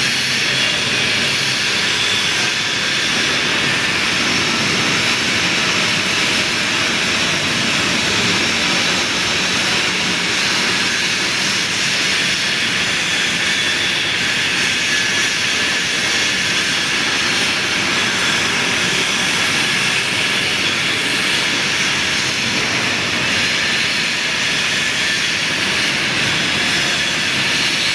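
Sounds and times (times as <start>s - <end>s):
lathe whirring: 0.0s - 27.9s.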